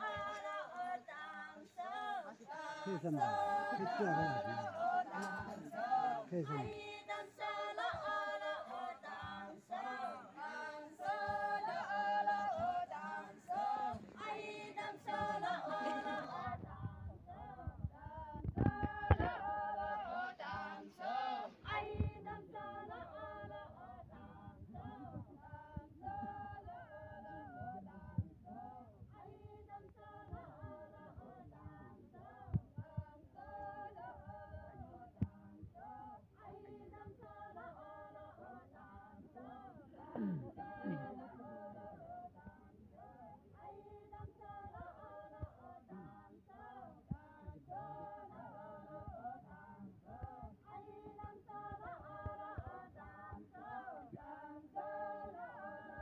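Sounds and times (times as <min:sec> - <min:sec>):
group singing in chorus: 0:00.0 - 0:56.0.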